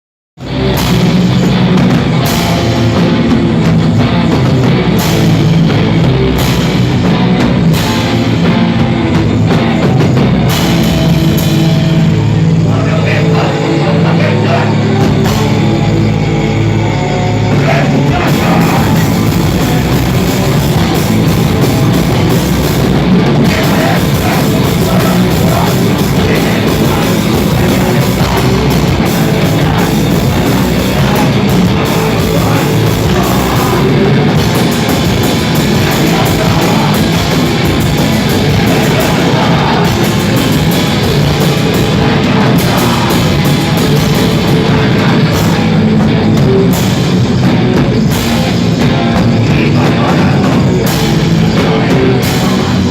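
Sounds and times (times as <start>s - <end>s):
southern rock band playing: 0.4s - 52.9s.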